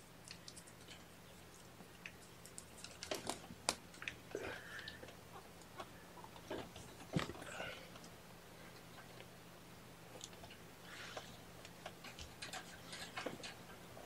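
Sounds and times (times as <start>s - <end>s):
small clicks and rustles: 0.0s - 9.4s, 10.1s - 14.0s.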